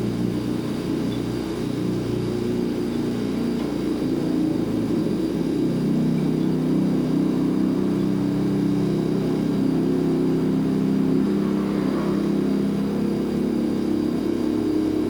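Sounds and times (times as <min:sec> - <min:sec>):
refrigerator compressor hum: 0:00.0 - 0:15.0.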